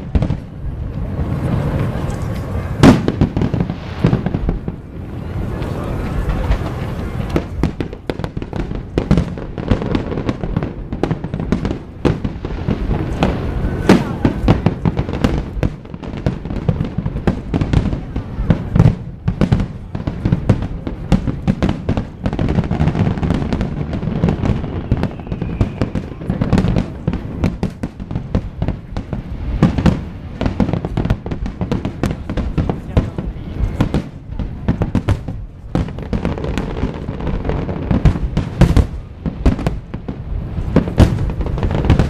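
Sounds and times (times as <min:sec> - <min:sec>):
fireworks bangs and crackles: 0:00.0 - 0:42.0.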